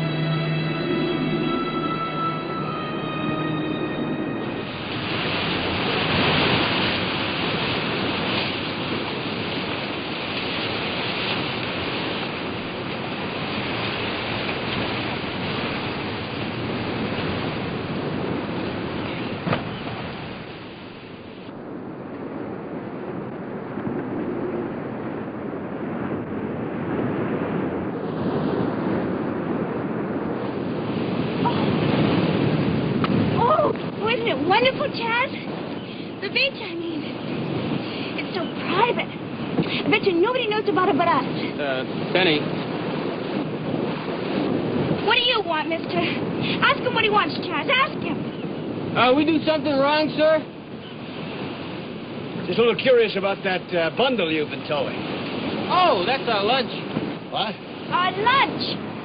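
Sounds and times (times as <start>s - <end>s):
ocean surf on rocky beach: 0.0s - 59.0s.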